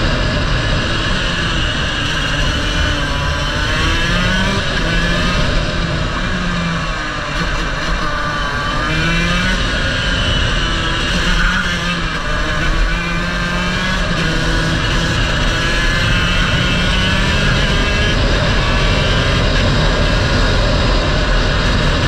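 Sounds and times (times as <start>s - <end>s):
racing kart engine revving: 0.0s - 22.0s.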